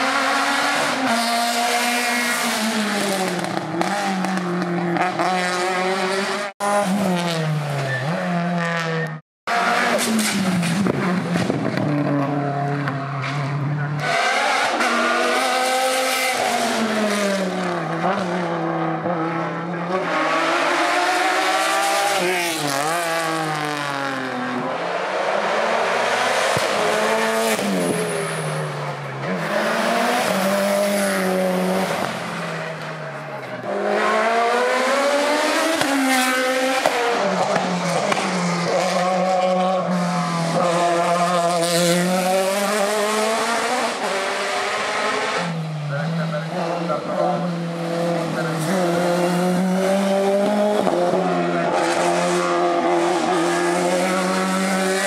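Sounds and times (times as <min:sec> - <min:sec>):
racing car engines at full throttle: 0:00.0 - 0:55.0.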